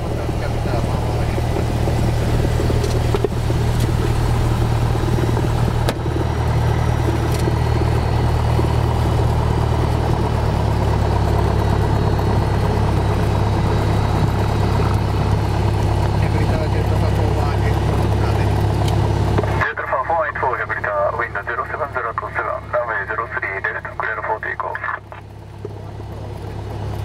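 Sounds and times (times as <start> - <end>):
propeller plane engine running: 0.0 - 27.0.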